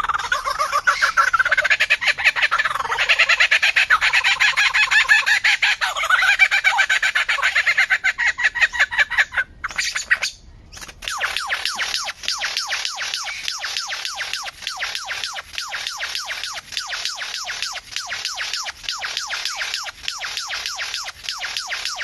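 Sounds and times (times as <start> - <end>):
bird singing: 0.0 - 6.6, 8.2 - 22.0.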